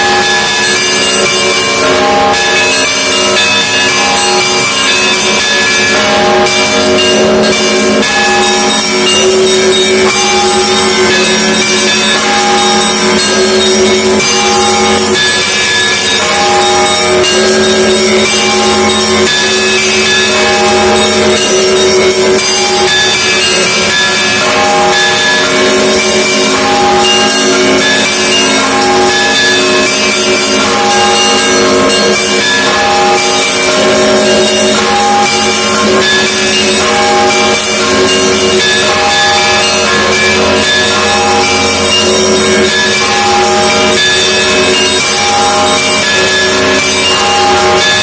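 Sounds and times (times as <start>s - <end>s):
large bells ringing: 0.0s - 48.0s
small bells struck in pattern: 0.0s - 48.0s.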